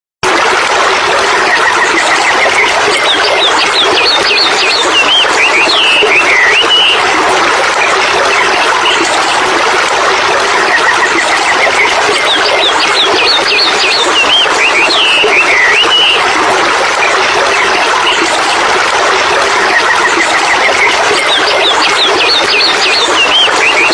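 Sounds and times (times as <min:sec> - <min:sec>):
waterfall rushing: 0:00.3 - 0:23.9.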